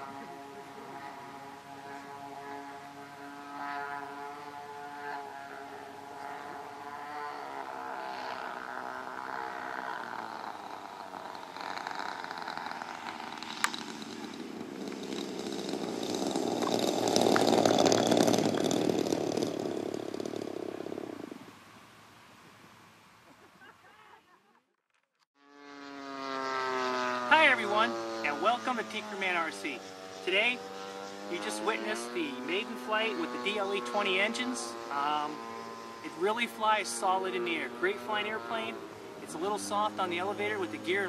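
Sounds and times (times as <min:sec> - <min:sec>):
model plane engines running: 0:00.0 - 0:21.5, 0:25.4 - 0:41.0.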